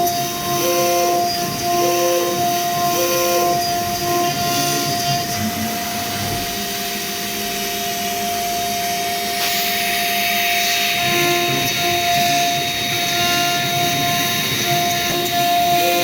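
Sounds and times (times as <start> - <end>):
hiss of bit cutting: 0.0 - 16.0
router spindle whining: 0.0 - 16.0.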